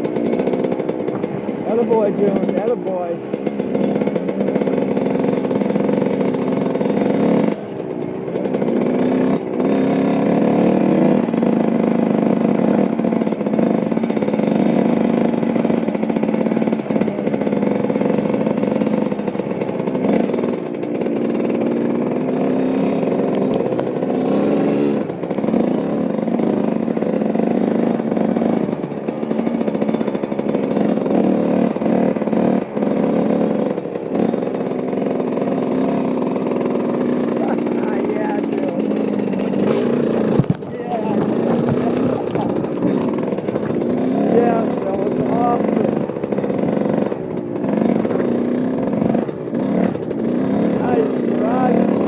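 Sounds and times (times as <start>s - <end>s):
small vehicle engine revving: 0.0s - 52.0s.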